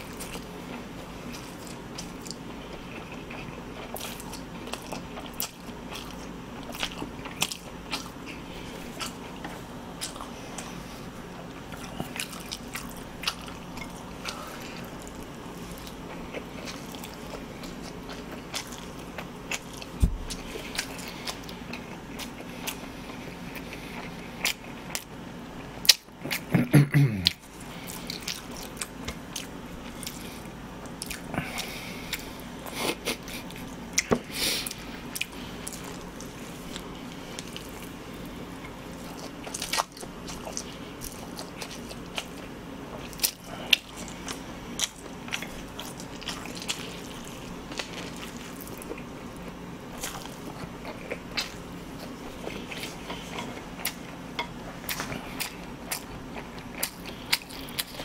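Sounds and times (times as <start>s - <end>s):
person chewing and slurping noodles: 0.0s - 58.0s.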